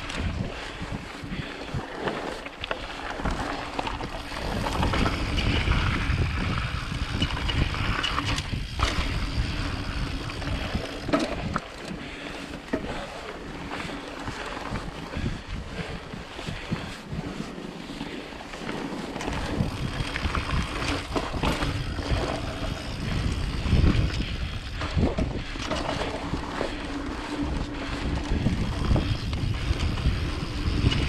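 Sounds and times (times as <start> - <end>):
bike rattling: 0.0 - 31.0
tyres rumbling over dirt: 0.0 - 31.0
wind rushing over microphone: 0.0 - 31.0.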